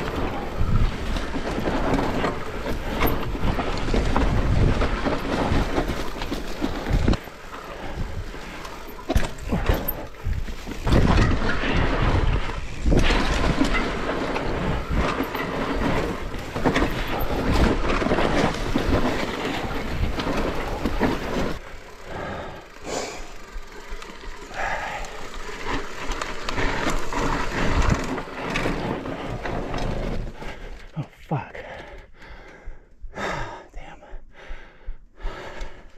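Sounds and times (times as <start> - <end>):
bike rattling over bumps: 0.0 - 31.0
bike tyre noise on dirt: 0.0 - 31.1.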